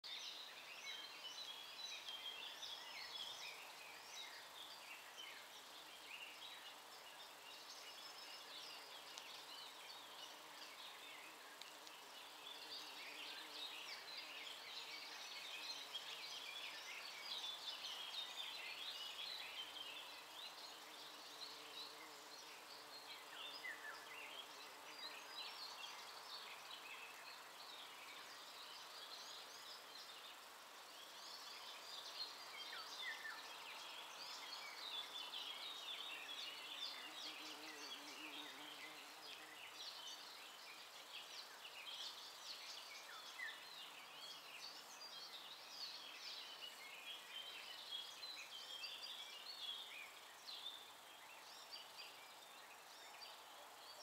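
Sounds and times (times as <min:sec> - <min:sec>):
steady background hiss: 0:00.1 - 0:54.0.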